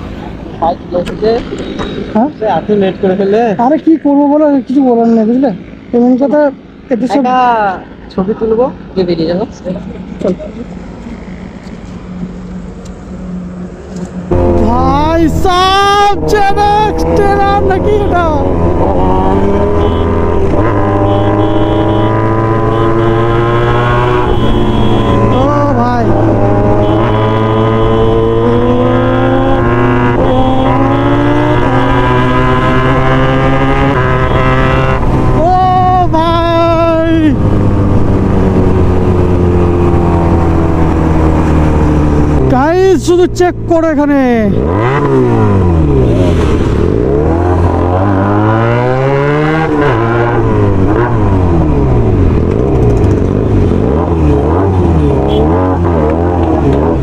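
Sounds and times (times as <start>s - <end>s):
motorcycle engine accelerating: 9.9s - 42.9s, 43.6s - 57.0s.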